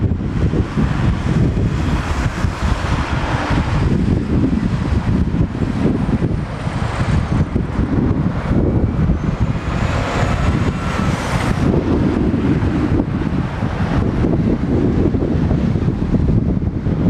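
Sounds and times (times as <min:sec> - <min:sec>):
road traffic: 0:00.0 - 0:17.0
truck passing: 0:00.0 - 0:17.0
wind buffeting microphone: 0:00.0 - 0:17.0.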